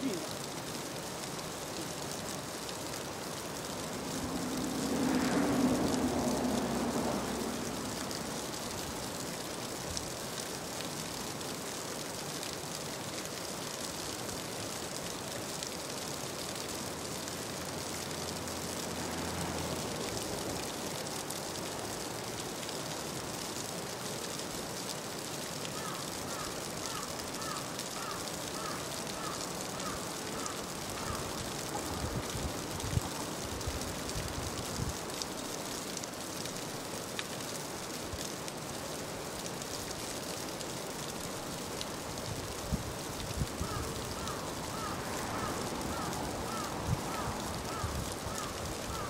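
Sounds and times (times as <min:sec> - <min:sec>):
stream running over rocks: 0:00.0 - 0:49.0.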